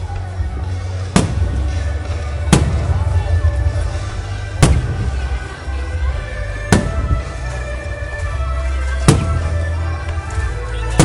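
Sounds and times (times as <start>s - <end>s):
music with heavy bass: 0.0s - 11.0s.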